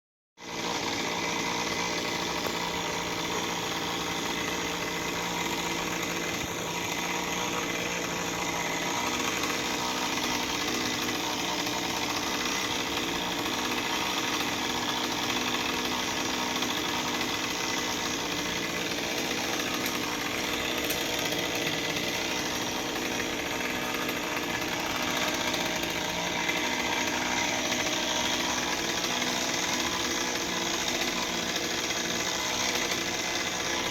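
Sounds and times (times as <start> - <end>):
small petrol engine running: 0.5 - 33.9.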